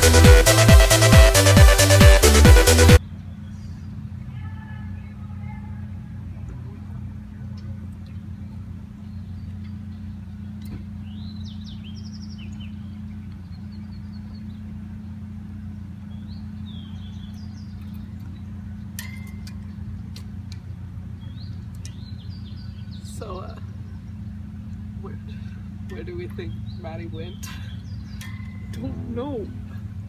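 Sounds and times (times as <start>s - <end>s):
steady low hum: 0.0s - 30.0s
songbirds chirping: 2.9s - 30.0s.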